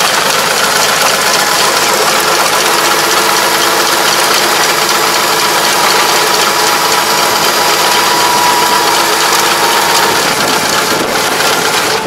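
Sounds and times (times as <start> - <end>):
rotary ditcher clatter and whine: 0.0 - 12.0
tractor engine: 0.0 - 12.0.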